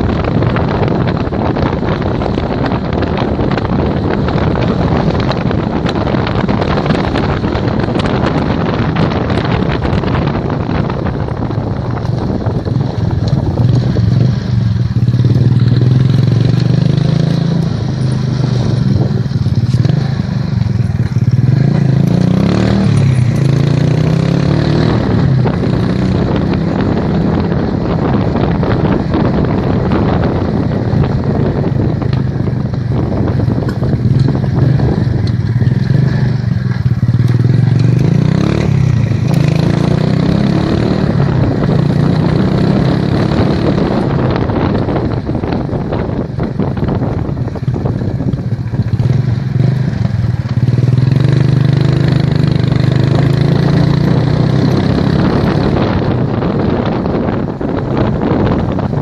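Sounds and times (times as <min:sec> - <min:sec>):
vehicle engine droning: 0:00.0 - 0:59.0
wind buffeting microphone: 0:00.0 - 0:59.0.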